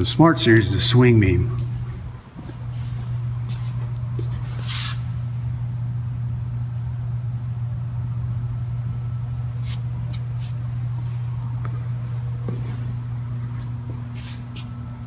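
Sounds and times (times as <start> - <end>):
hydraulic shear motor humming: 0.0 - 15.0.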